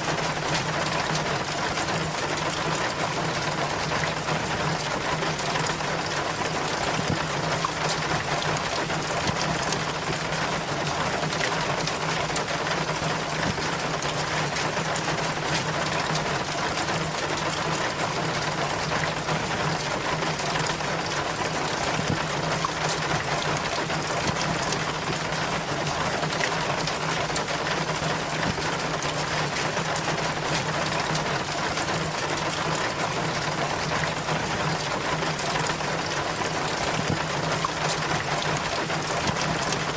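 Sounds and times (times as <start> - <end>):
rainwater running down a rain chain: 0.0 - 39.9.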